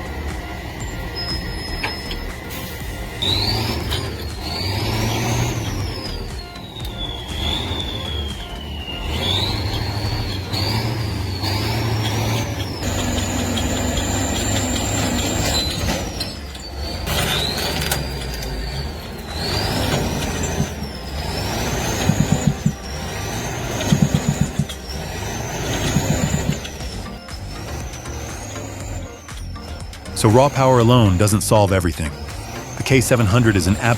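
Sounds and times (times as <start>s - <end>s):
diesel tractor engine revving: 0.0s - 33.9s
high engine whine: 0.0s - 33.9s.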